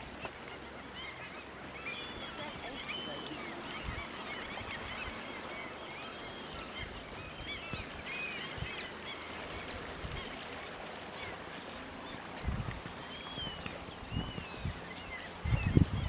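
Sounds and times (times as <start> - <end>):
birds chirping and whistling: 0.8 - 16.0.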